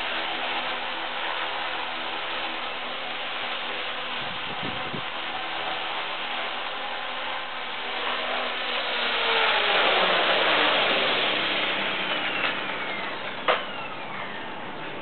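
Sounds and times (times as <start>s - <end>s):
toy helicopter rotors whirring: 0.0s - 14.8s.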